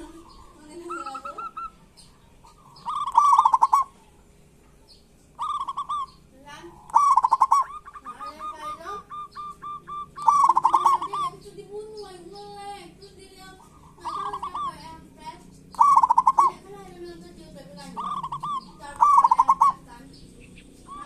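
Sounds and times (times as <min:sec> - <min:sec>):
doves calling: 0:00.0 - 0:21.0.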